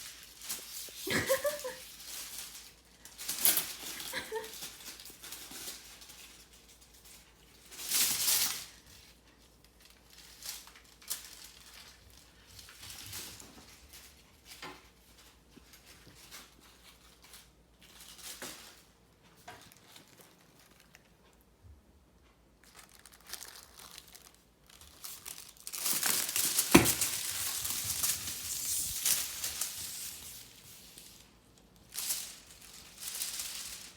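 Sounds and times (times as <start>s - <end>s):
cat toy crinkling: 0.0s - 21.4s, 22.6s - 33.9s.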